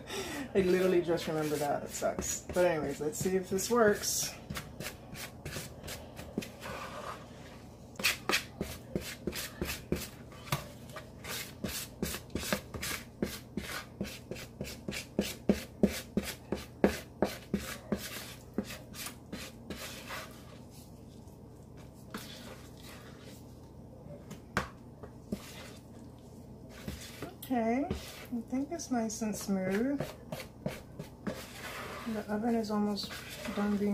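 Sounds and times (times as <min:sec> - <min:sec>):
spoon stirring batter in bowl: 0:00.6 - 0:33.9.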